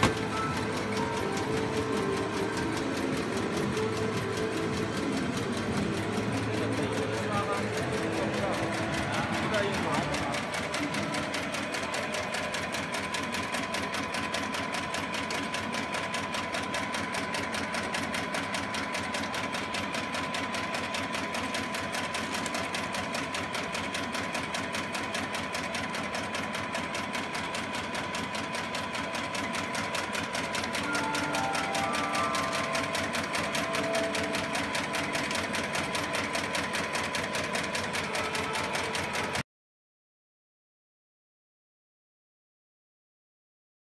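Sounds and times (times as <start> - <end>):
machine mechanical clatter: 0.0 - 39.4
machine whine: 0.0 - 39.4.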